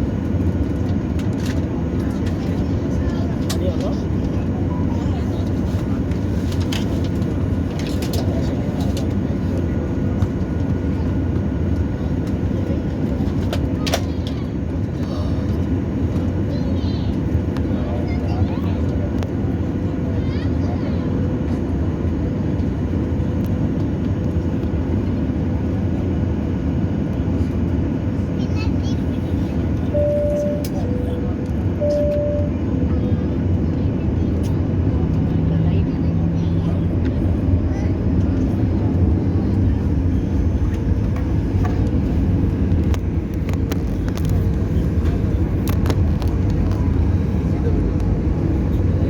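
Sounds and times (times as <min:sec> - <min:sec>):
airliner cabin engine rumble: 0:00.0 - 0:49.0.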